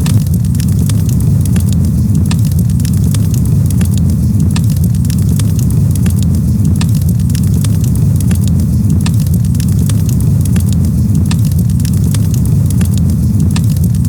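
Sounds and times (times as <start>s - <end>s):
campfire crackling and popping: 0.0s - 14.0s
low rumble: 0.0s - 14.0s.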